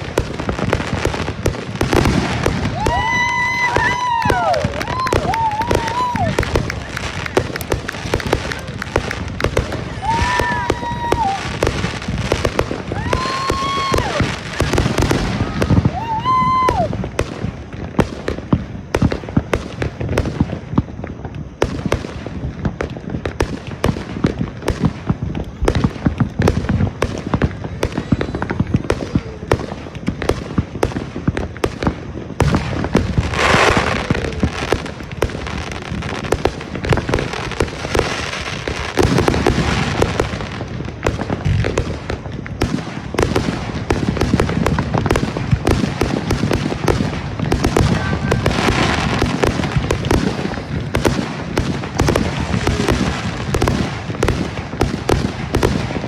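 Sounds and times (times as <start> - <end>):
fireworks bangs and crackles: 0.0 - 56.0
fireworks hissing burst: 0.0 - 56.0
fireworks whistling: 0.0 - 56.0.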